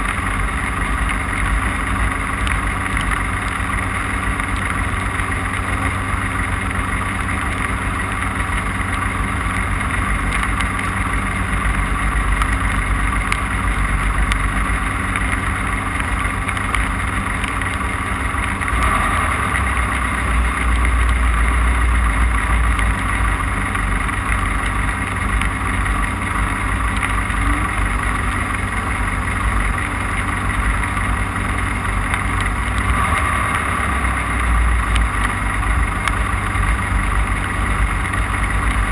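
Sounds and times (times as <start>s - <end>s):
race car engine rumbling: 0.0s - 38.9s.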